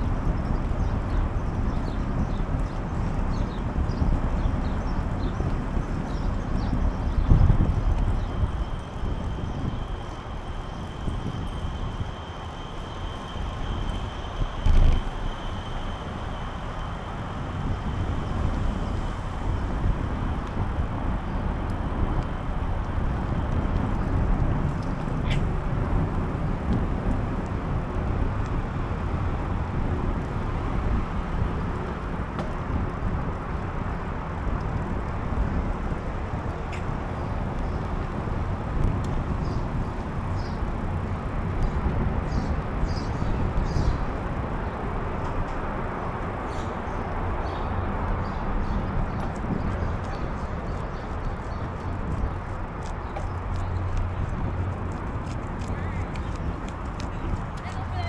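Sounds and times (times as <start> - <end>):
bicycle riding noise: 0.0 - 58.0
road traffic rush: 0.0 - 58.0.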